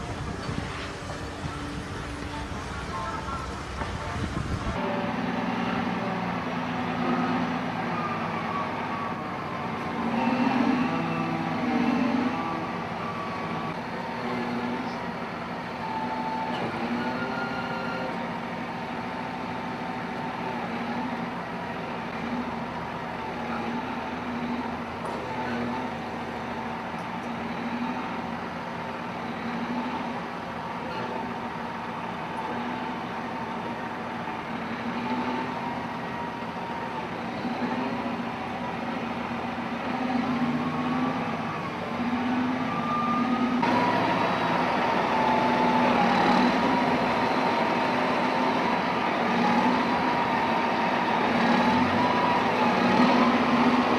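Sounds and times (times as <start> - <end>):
heavy machinery engine running: 0.0 - 53.9.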